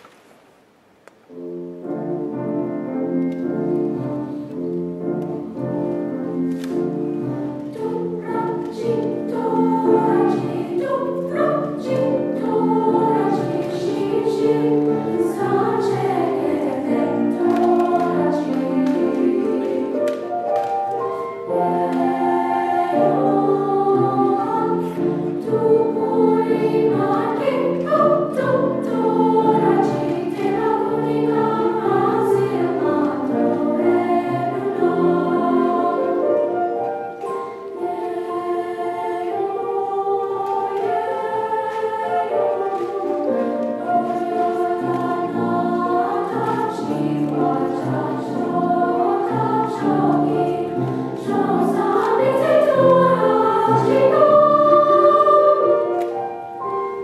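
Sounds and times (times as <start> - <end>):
choir singing: 1.3 - 57.0.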